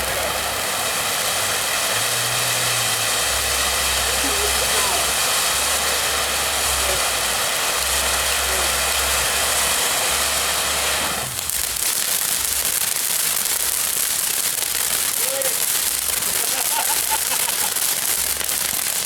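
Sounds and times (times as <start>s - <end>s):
firework hissing and crackling: 0.0s - 19.0s.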